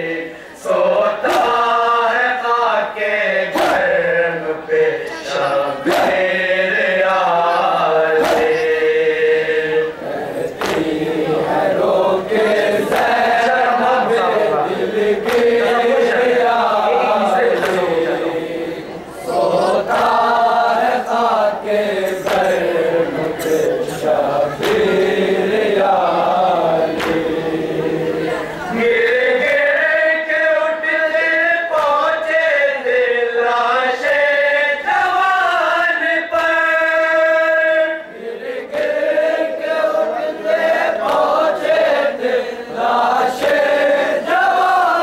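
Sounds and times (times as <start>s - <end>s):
lead reciter singing: 0.0s - 45.0s
men chanting a lament: 0.0s - 45.0s.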